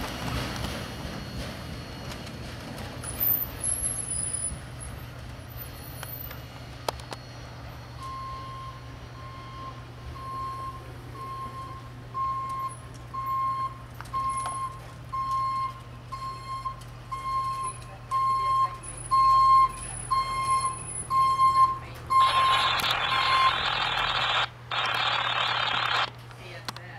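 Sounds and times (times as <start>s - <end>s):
backup alarm beeps: 0.6s - 4.5s, 6.8s - 26.1s.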